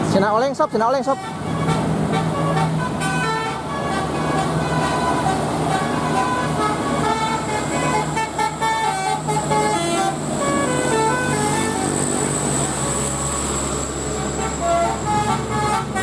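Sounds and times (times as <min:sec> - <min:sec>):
bus engine humming: 0:00.0 - 0:16.0
musical air horn tune: 0:00.6 - 0:13.0, 0:14.2 - 0:16.0.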